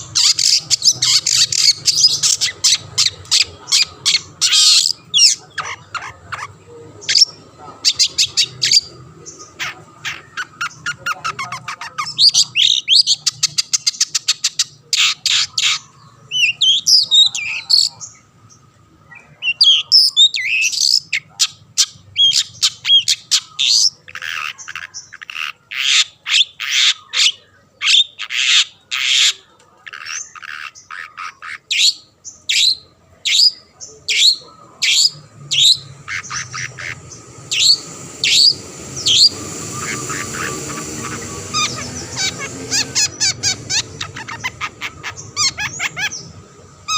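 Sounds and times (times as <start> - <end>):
bird trill: 0.0 - 46.9.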